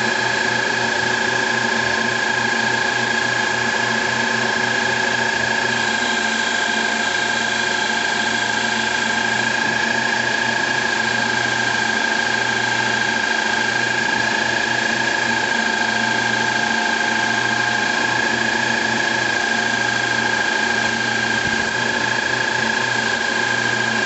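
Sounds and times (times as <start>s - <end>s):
metal lathe whining: 0.0s - 24.0s.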